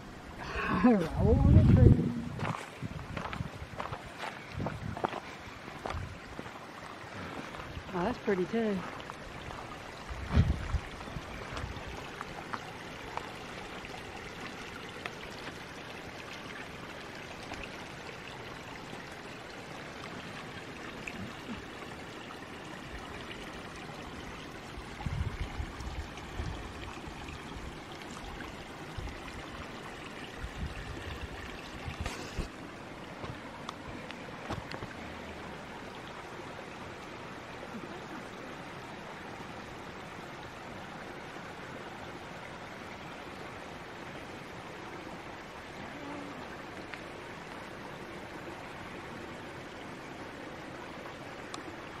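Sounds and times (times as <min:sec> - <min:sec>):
creek running: 0:00.0 - 0:52.0.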